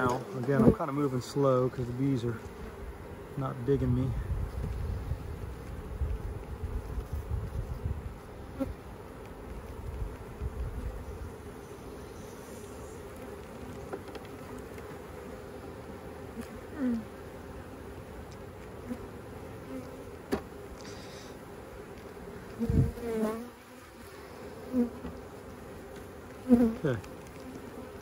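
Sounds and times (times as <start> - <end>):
bee flying past: 0.0 - 28.0
bees buzzing: 0.0 - 28.0.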